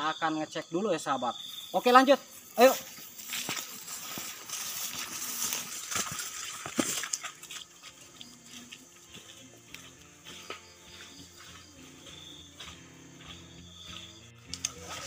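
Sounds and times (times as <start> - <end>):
insects buzzing: 0.0 - 15.0
footsteps on forest path: 1.3 - 15.0
grass and undergrowth rustling: 1.3 - 15.0.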